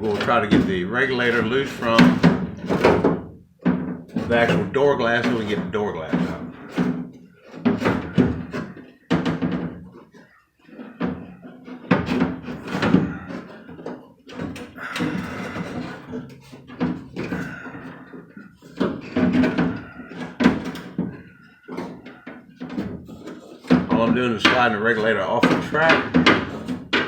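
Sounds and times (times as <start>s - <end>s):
metal knocks and clunks: 0.0s - 27.0s
metal scraping: 0.0s - 27.0s.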